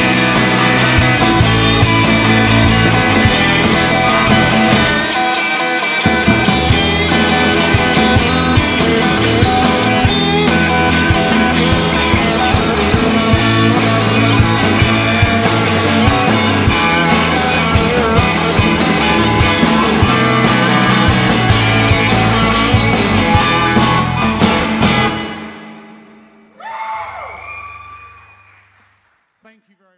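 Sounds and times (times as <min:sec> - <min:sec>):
driving drum beat: 0:00.0 - 0:05.2, 0:06.0 - 0:25.4
electric guitars: 0:00.0 - 0:27.7
bass guitar: 0:00.0 - 0:28.0.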